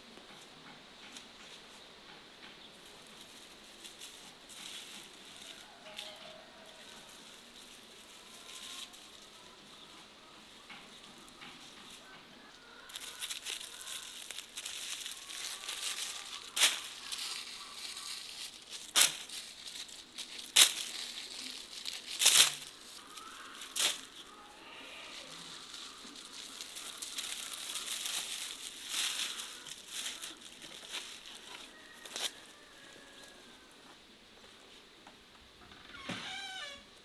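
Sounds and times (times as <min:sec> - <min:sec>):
dry leaves rustling: 0:02.6 - 0:34.7
sharp leaf crackles: 0:02.7 - 0:33.8.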